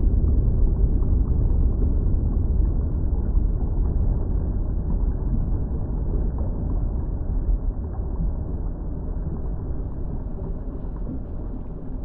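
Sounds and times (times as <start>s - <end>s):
lava bubbling with low rumble: 0.0s - 12.0s.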